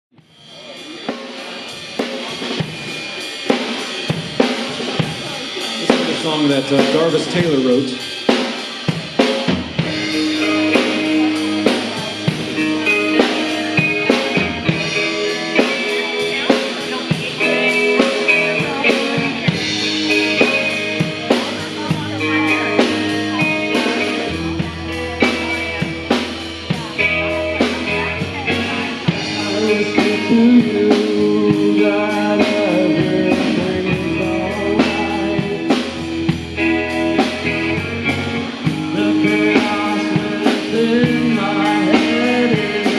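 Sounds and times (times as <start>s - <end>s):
drum kit beat: 0.1s - 42.9s
rock band playing live: 0.1s - 42.9s.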